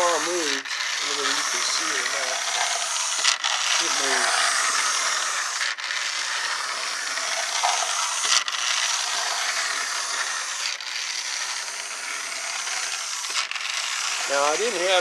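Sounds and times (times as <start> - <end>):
toy trolley motor whirring: 0.0 - 15.0.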